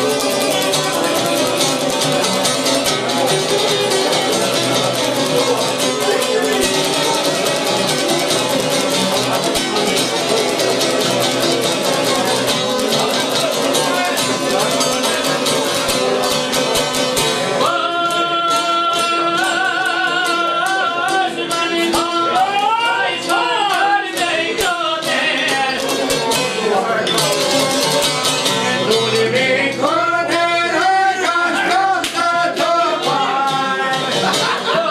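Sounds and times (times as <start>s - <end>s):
plucked string folk music: 0.0s - 34.9s.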